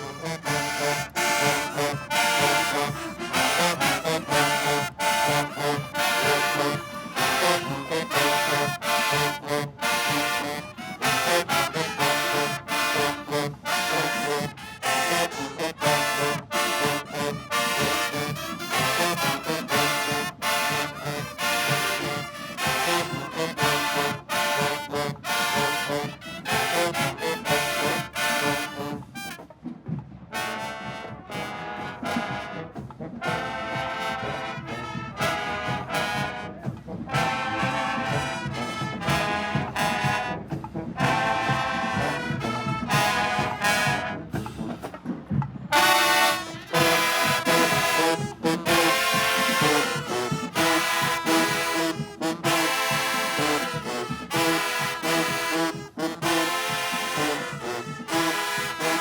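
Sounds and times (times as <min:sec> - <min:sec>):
trombones and trumpets phrases: 0:00.0 - 0:29.5, 0:30.3 - 0:45.0, 0:45.7 - 0:59.0
marching band playing: 0:00.0 - 0:59.0.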